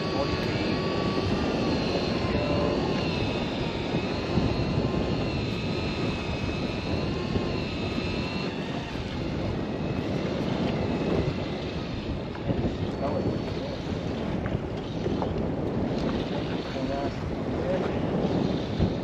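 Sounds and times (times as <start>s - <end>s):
electric reel motor whine: 0.0s - 19.0s
sea noise: 0.0s - 19.0s
wind: 0.0s - 19.0s.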